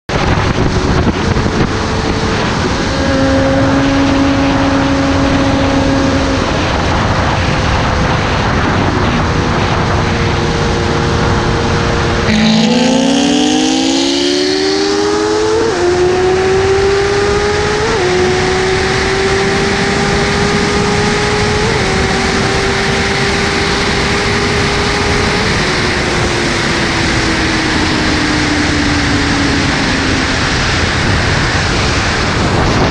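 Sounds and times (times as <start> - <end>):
motorcycle engine revving: 0.1 - 32.9
wind rush over microphone: 0.1 - 32.9.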